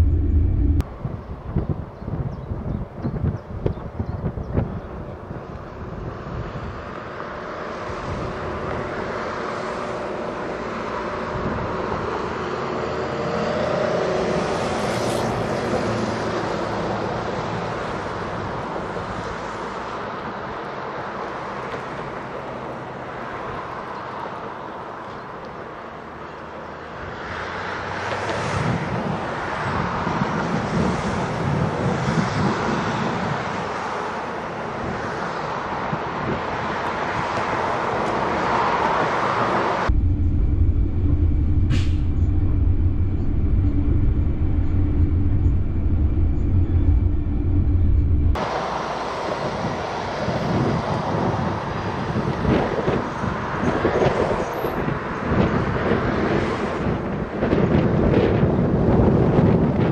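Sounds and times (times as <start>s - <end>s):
light rail train rumbling: 0.0s - 27.1s, 28.4s - 59.9s.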